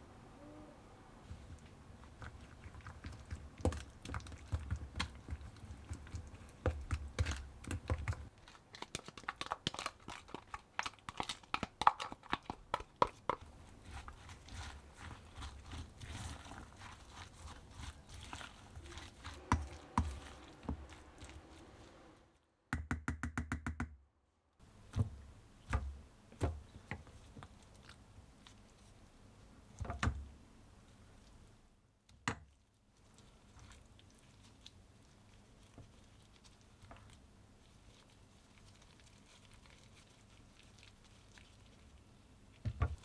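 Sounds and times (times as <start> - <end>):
faint steady hiss: 0.0 - 8.8, 12.8 - 22.5, 24.6 - 43.0.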